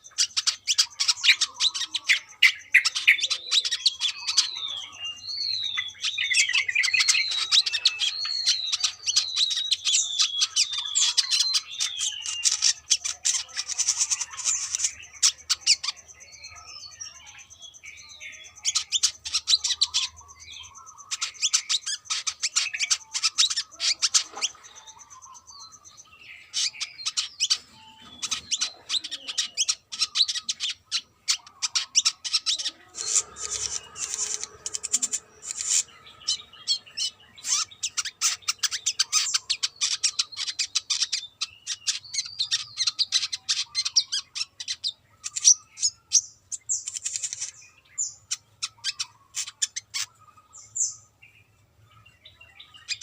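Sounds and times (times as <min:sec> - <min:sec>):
bird chirps and chattering trills: 0:00.0 - 0:53.0.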